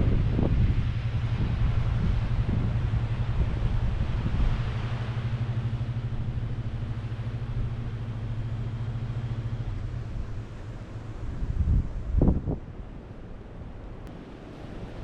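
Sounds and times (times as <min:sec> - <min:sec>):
pickup truck engine running: 0:00.0 - 0:12.8.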